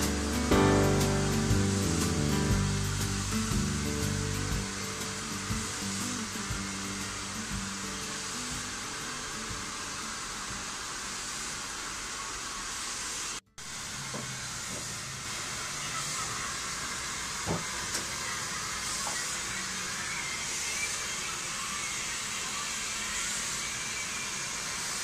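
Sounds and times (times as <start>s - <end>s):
water hissing from hand sprayer: 0.0s - 25.0s.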